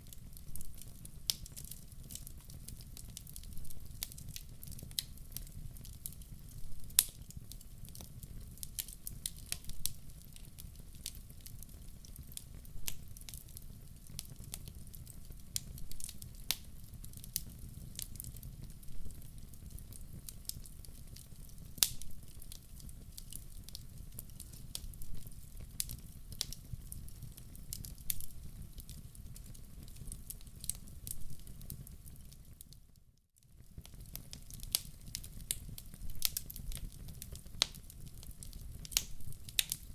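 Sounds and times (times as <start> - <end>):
log fire crackling and popping: 0.0 - 32.8, 33.4 - 39.9.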